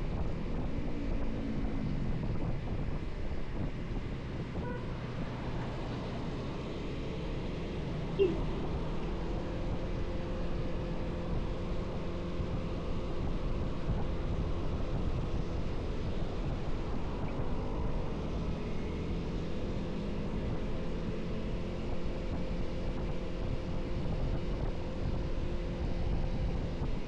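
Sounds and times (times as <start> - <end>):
road and wind noise: 0.0 - 27.0.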